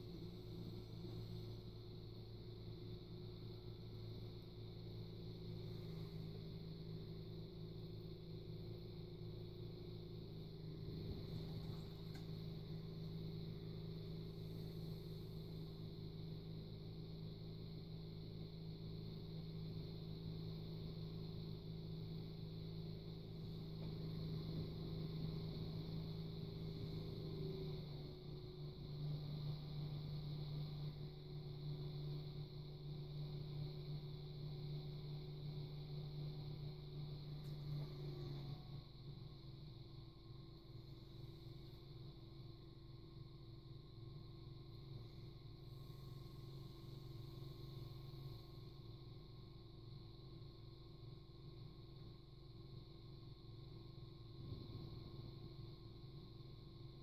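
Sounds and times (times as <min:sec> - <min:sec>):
potter's wheel motor humming: 0:00.0 - 0:48.9.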